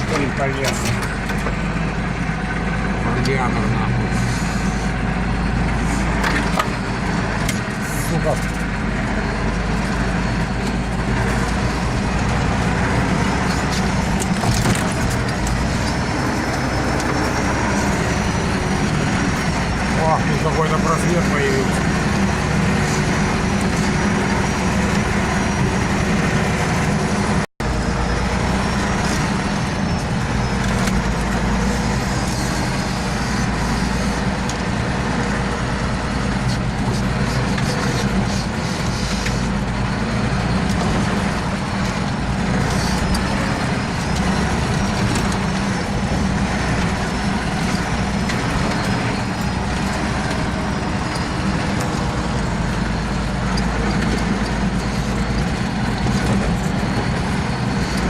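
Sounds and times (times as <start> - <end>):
branches scraping vehicle: 0.0 - 58.0
off-road vehicle engine running: 0.0 - 58.0.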